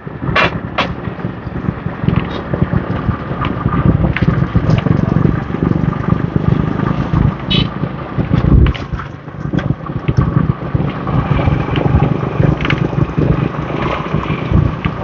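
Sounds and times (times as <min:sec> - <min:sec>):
scooter traffic: 0:00.0 - 0:15.0
wind buffeting microphone: 0:00.0 - 0:15.0.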